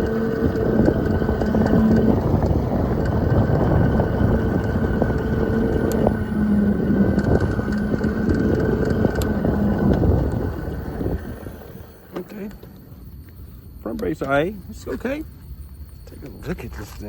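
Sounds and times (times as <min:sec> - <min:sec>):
electric motor whine: 0:00.0 - 0:16.2
wind buffeting the microphone: 0:00.0 - 0:17.0.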